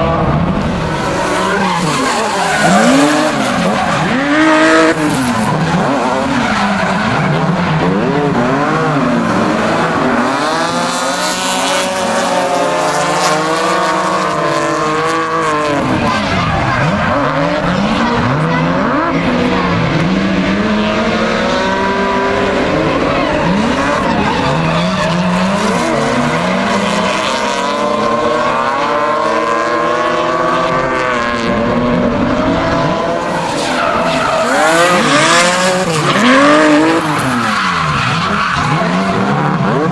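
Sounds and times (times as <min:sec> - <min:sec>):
car engines revving hard: 0:00.0 - 0:39.9
tyres squealing on track: 0:00.8 - 0:12.6, 0:15.4 - 0:29.4, 0:32.2 - 0:39.9.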